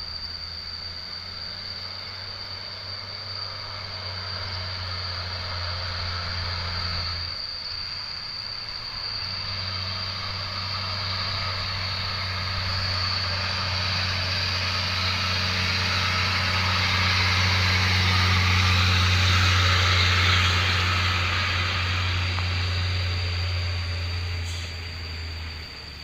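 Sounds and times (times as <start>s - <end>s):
high brake squeal: 0.0s - 26.0s
truck engine humming: 3.4s - 26.0s.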